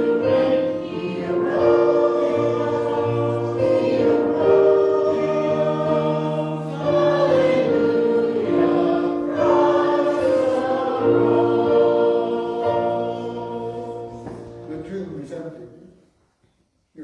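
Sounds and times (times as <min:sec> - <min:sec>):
choir singing sacred piece: 0:00.0 - 0:15.3.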